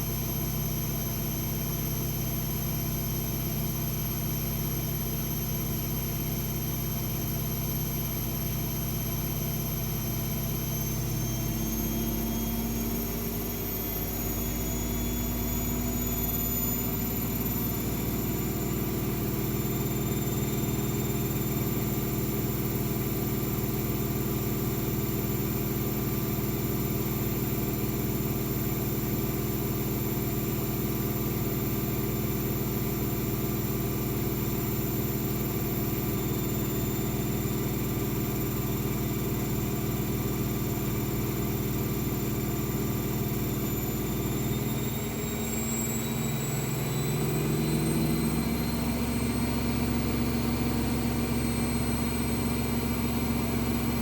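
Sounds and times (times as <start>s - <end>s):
washing machine spinning: 9.5s - 54.0s.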